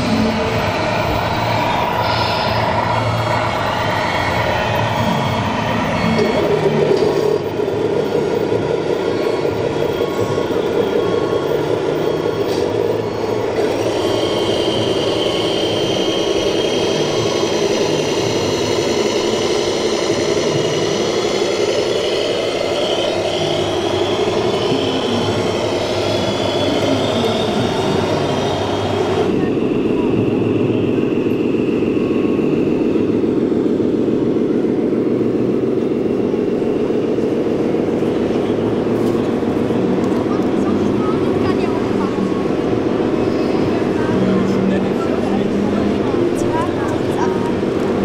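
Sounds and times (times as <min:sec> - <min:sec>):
high wavering motor whine: 0:00.0 - 0:48.0
model truck engine sound: 0:00.0 - 0:48.0.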